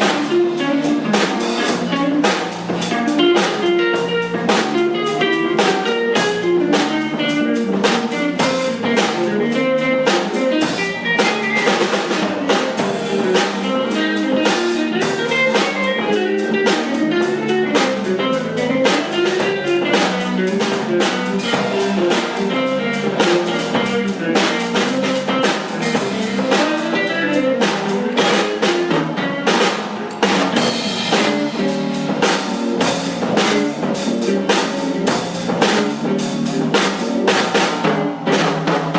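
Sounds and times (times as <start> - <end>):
drum and rim hits: 0.0 - 38.9
guitar line: 0.0 - 38.9.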